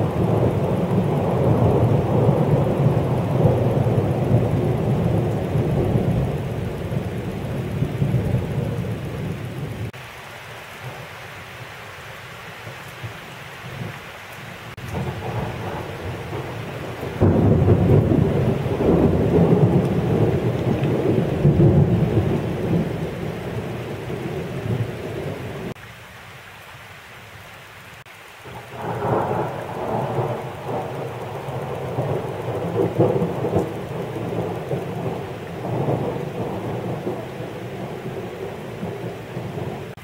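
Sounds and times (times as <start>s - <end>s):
thunder rumbling: 0.0s - 10.0s, 14.7s - 25.8s, 28.5s - 40.0s
rain hissing: 0.0s - 40.0s.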